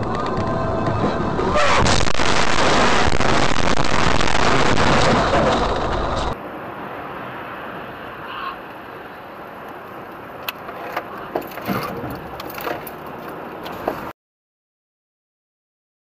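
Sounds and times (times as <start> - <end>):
road noise: 0.0 - 14.2.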